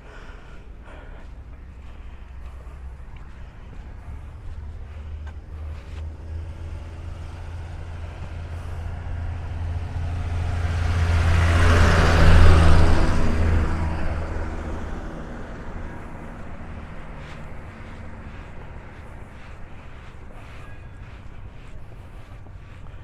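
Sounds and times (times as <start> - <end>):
vehicle driving past: 1.2 - 23.0.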